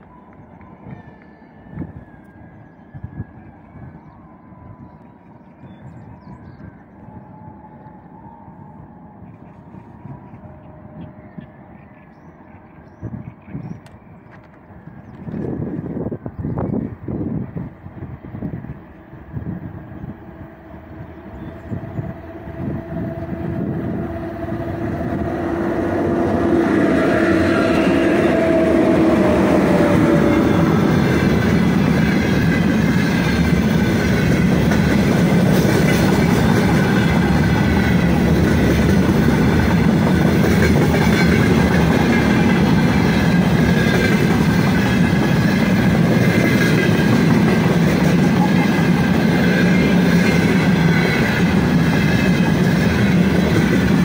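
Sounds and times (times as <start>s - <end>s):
electric locomotive humming: 0.0s - 54.0s
freight train wheels rumbling: 0.0s - 54.0s.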